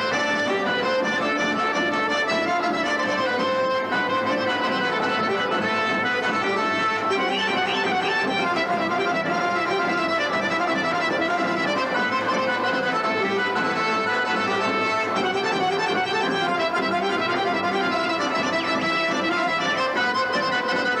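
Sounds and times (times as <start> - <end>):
accordion folk dance music: 0.0 - 21.0.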